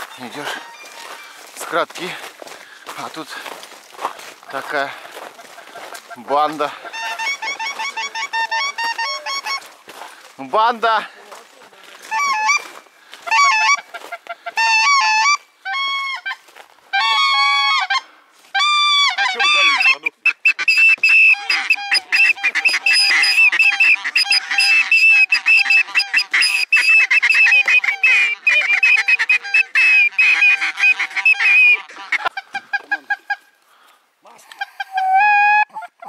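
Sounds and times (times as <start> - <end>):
geese honking: 0.0 - 36.0.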